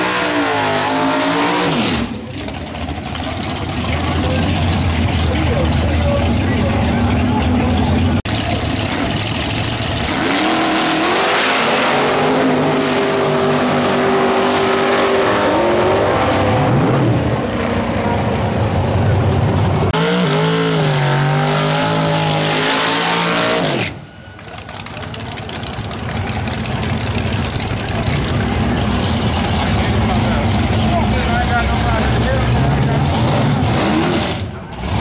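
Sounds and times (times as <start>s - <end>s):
car engine revving during burnout: 0.0s - 2.5s, 7.8s - 24.0s, 24.9s - 35.0s
car engines at full throttle: 0.0s - 35.0s.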